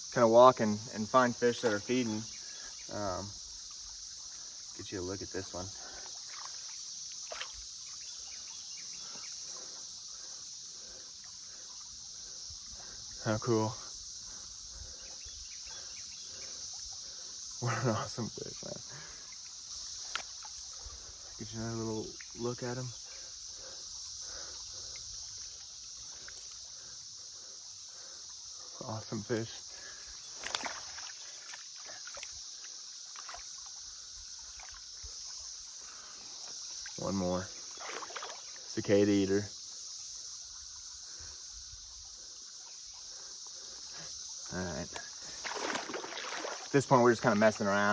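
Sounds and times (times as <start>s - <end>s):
high-pitched insect chorus: 0.0s - 47.9s
water splashing and dripping: 0.8s - 15.0s, 15.6s - 39.0s, 39.7s - 47.9s.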